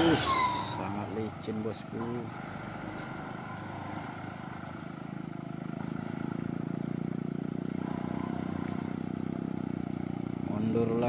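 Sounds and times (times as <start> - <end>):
truck diesel engine labouring: 0.0 - 11.0.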